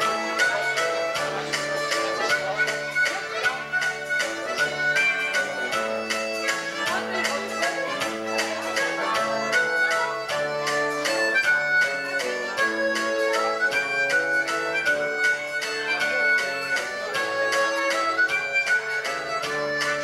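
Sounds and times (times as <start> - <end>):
amplified harmonica melody: 0.0 - 20.0.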